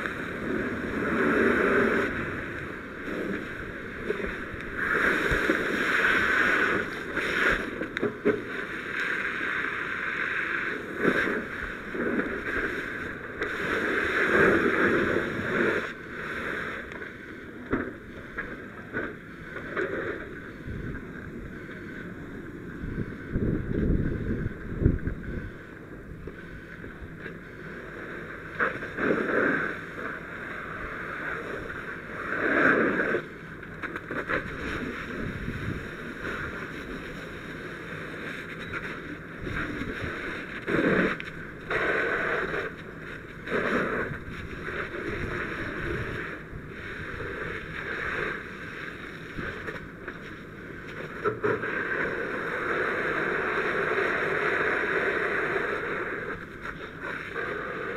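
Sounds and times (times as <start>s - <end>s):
fire hose water spray: 0.0s - 17.6s, 27.7s - 57.9s.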